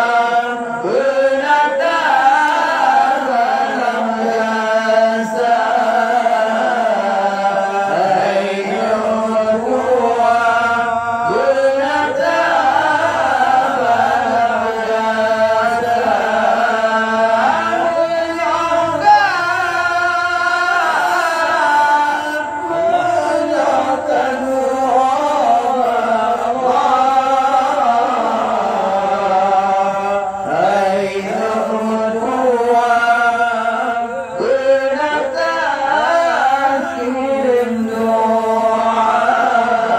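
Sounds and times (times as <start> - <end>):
man singing devotional song: 0.0 - 39.9.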